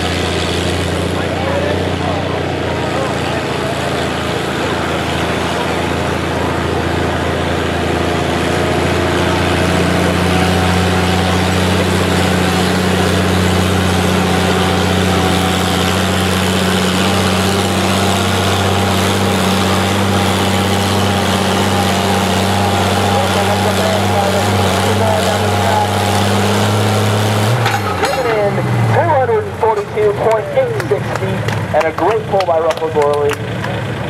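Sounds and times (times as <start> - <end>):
tractor engine running hard: 0.0 - 34.0.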